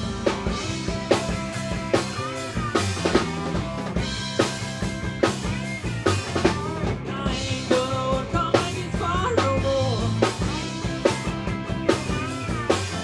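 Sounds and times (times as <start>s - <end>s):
drum kit snare and bass drum: 0.0s - 13.0s
rock band instrumental: 0.0s - 13.0s.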